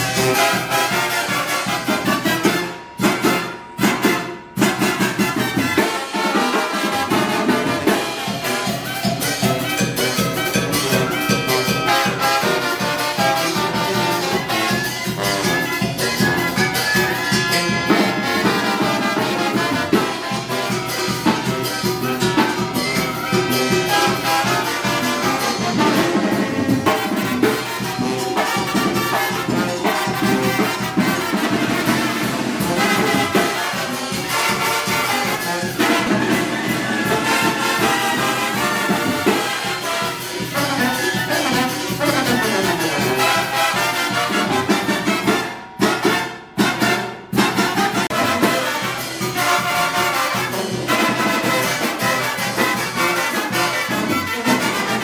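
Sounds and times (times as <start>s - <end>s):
drums: 0.0s - 55.0s
trombones: 0.0s - 55.0s
trumpets: 0.0s - 55.0s
sousaphone bass line: 6.9s - 55.0s.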